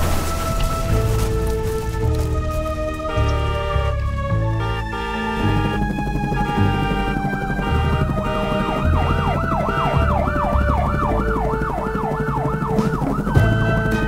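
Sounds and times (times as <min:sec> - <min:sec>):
background music with bass: 0:00.0 - 0:14.0
emergency siren yelping: 0:00.6 - 0:14.0.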